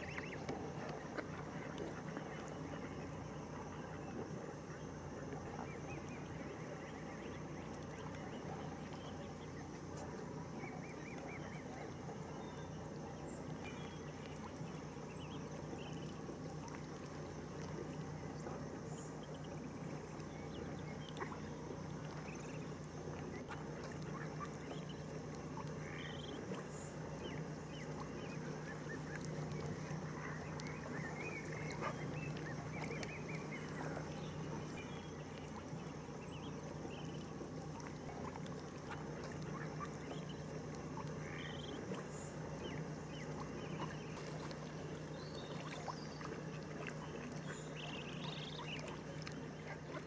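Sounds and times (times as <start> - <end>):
steady low hum: 0.0 - 50.0
waterbirds calling faintly: 0.0 - 50.0.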